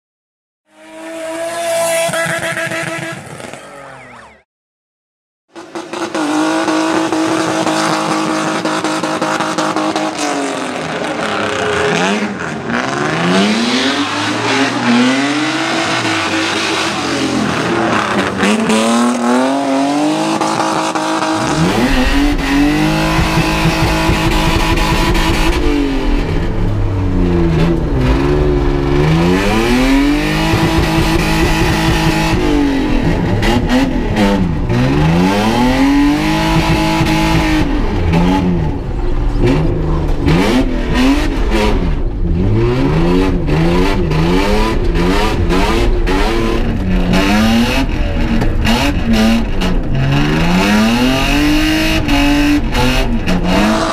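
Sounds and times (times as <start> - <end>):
car engine revving: 0.7 - 4.4, 5.6 - 53.9.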